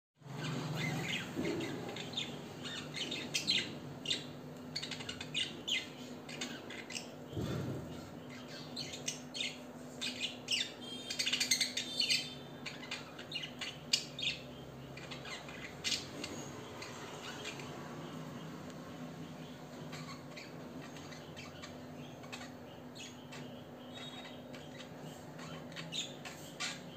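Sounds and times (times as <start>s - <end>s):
budgerigars chirping and warbling: 0.2s - 26.9s.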